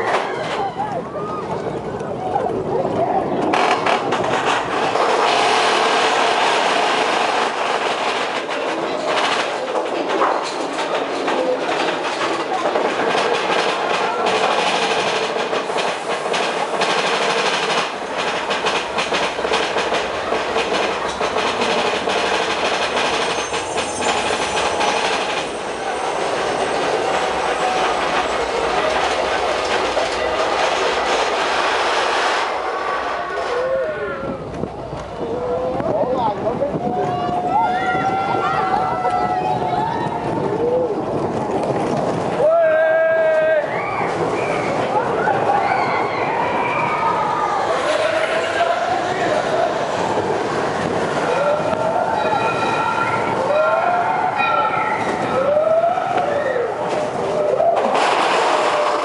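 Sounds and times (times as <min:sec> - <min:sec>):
roller coaster cars rattling: 0:00.0 - 0:59.0.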